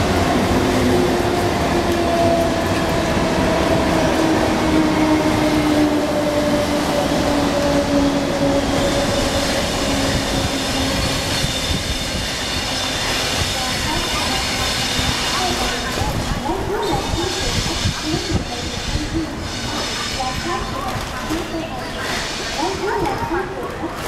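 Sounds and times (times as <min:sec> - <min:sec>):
train rumbling along rails: 0:00.0 - 0:24.0.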